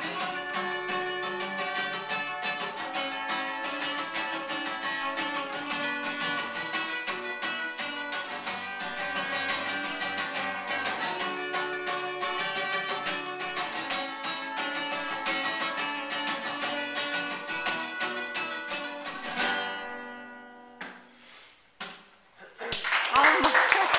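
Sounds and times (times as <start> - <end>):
acoustic guitars strumming: 0.0 - 21.3.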